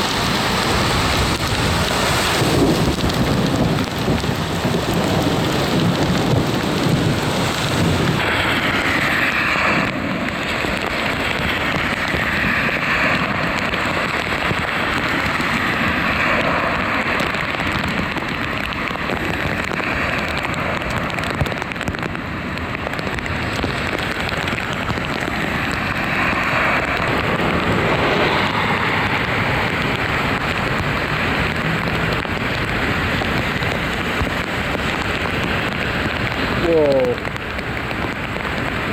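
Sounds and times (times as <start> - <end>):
rushing floodwater: 0.0 - 38.9
torrential rain pouring: 0.0 - 38.9.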